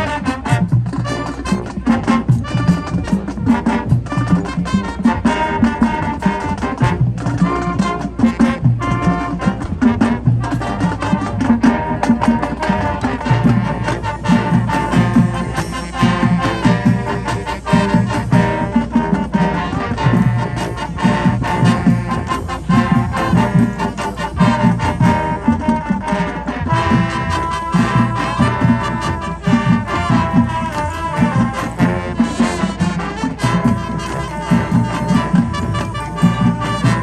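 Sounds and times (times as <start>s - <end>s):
brass section chords: 0.0s - 37.0s
drum line beat: 0.0s - 37.0s.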